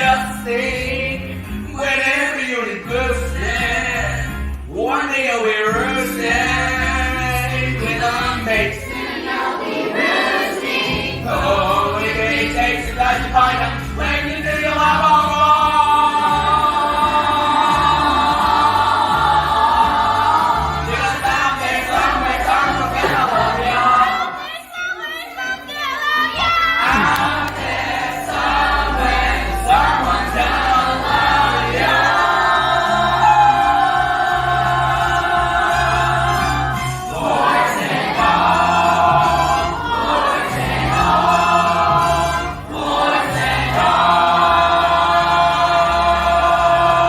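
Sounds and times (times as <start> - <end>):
backing music: 0.0 - 47.0
chorus singing: 0.0 - 47.0.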